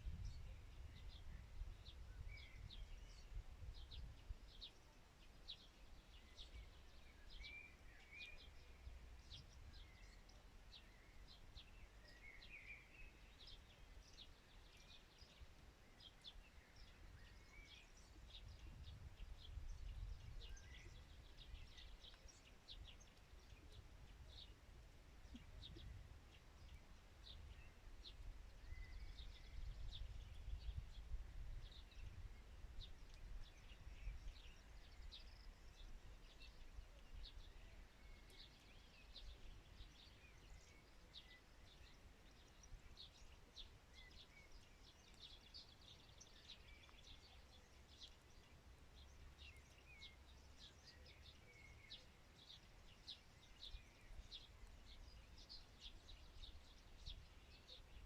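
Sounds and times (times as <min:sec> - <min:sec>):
birds chirping: 0:00.3 - 0:58.0.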